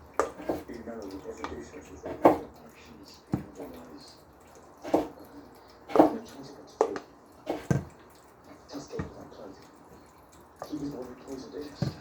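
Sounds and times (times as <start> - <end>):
spoon scooping mashed potatoes: 0.0 - 12.0.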